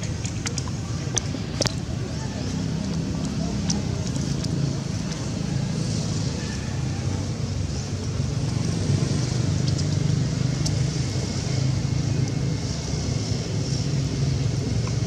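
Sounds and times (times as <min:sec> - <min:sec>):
motor droning steadily: 0:00.0 - 0:15.0.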